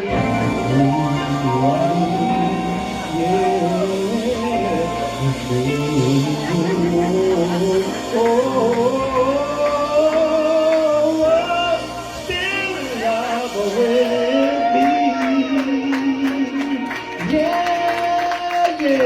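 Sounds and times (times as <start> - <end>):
backing music: 0.0 - 19.0
man singing r and b ballad: 0.0 - 19.0.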